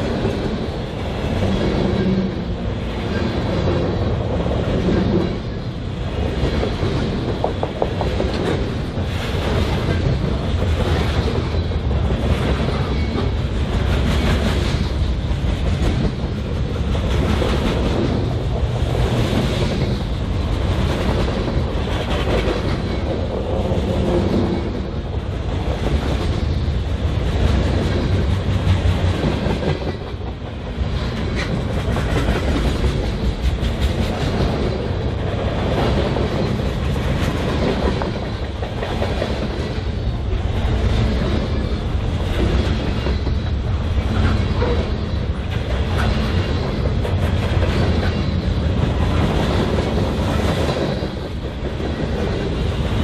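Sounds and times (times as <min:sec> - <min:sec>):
freight train rumbling: 0:00.0 - 0:53.0
wheels clacking over rail joints: 0:00.0 - 0:53.0.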